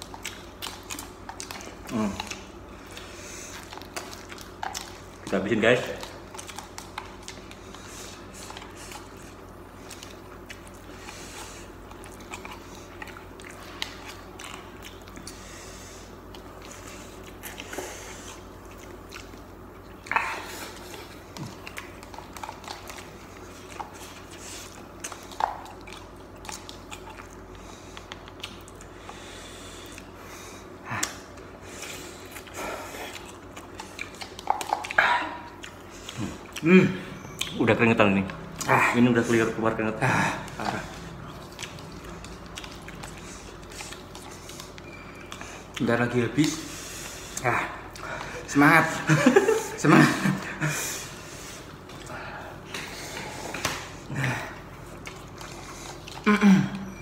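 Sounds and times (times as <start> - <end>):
low steady hum: 0.0 - 57.0
people chewing noodles: 0.0 - 57.0.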